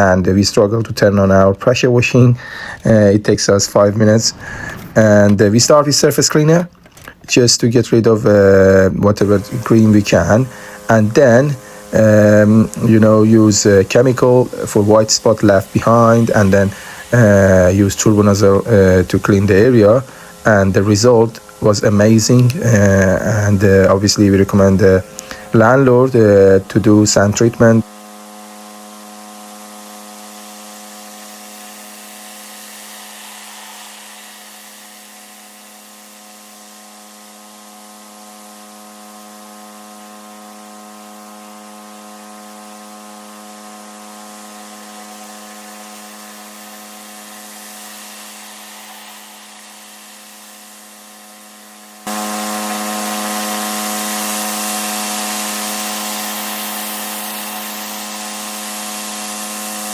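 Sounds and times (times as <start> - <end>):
pressure washer spraying: 2.4 - 6.3, 8.2 - 59.9.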